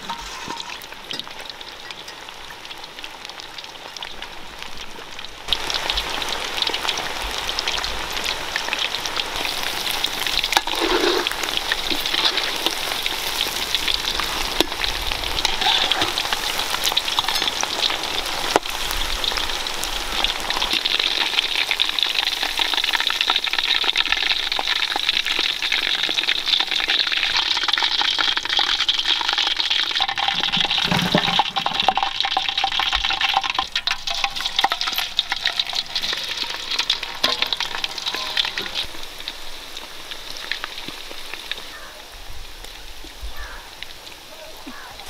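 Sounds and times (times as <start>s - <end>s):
food deep-frying in oil: 0.0s - 45.0s.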